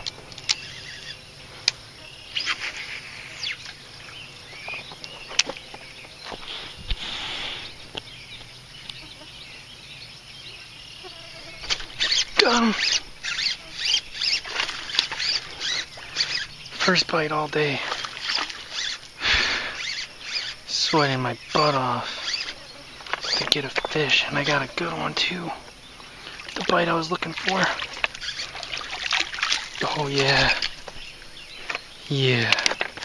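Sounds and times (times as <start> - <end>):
fishing tackle clicks and rustles: 0.0 - 8.6, 11.6 - 33.0.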